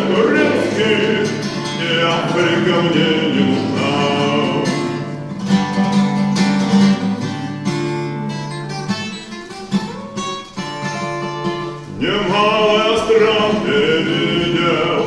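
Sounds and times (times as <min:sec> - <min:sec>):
acoustic guitar strummed and plucked: 0:00.0 - 0:15.0.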